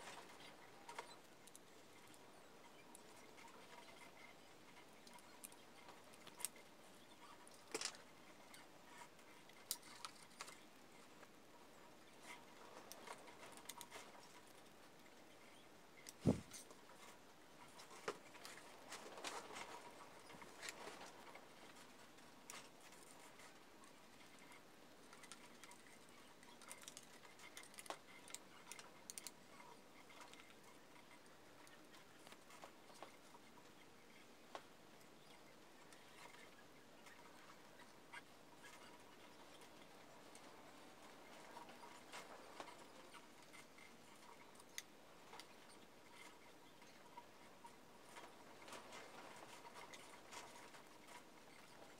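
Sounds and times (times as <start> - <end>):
small ticks: 0.0 - 11.4, 12.2 - 51.9
wires rustling and clicking: 0.0 - 51.9.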